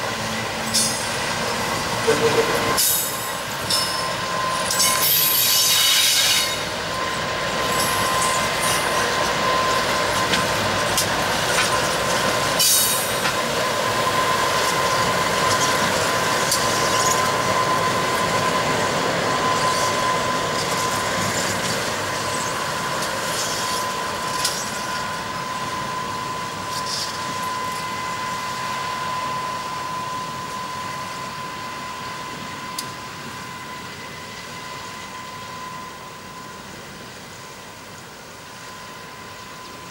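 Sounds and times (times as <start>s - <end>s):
diesel locomotive engine noise: 0.0s - 39.9s.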